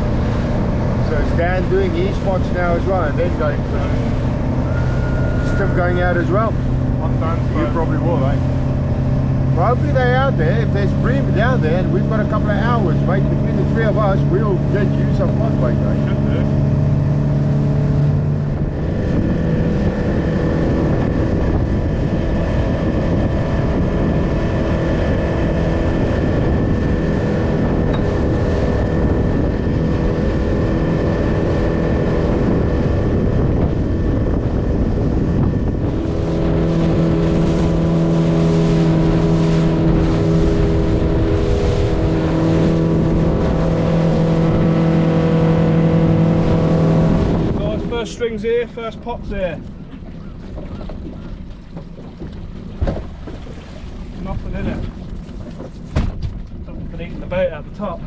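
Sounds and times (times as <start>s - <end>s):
boat engine running: 0.0s - 58.0s
constant rushing noise: 0.0s - 58.0s.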